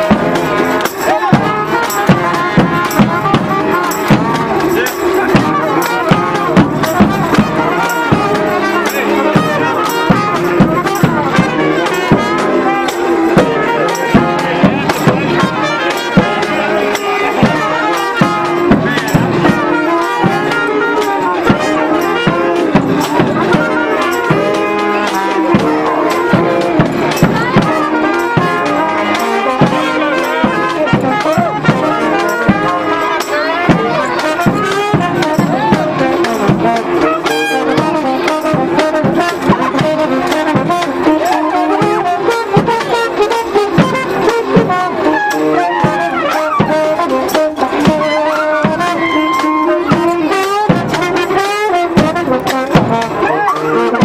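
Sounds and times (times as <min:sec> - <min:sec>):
brass band playing: 0:00.0 - 0:54.0
steady drum beat: 0:00.0 - 0:54.0
trombone: 0:00.0 - 0:54.0.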